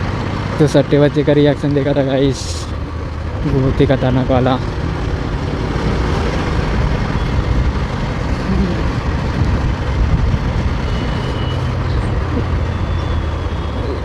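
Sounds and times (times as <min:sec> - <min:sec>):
motorcycle engine rumble: 0:00.0 - 0:14.0
road and wind noise: 0:00.0 - 0:14.0.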